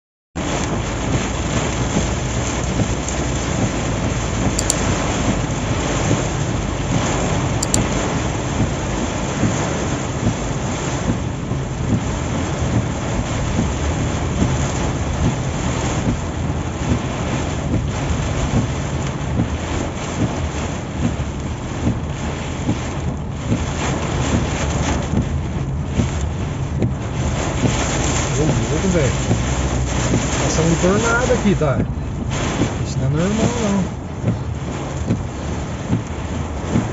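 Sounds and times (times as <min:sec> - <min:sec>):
rain on moving car: 0:00.4 - 0:36.9
road noise: 0:00.4 - 0:36.9.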